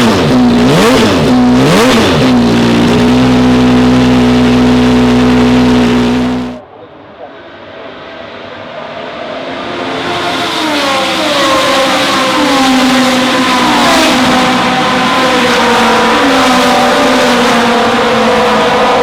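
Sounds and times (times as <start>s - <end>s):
racing car engine: 0.0s - 19.0s.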